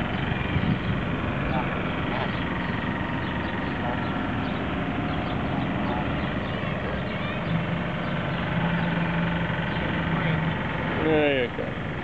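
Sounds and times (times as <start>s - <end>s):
low engine hum: 0.0s - 12.0s
traffic rumble: 0.0s - 12.0s.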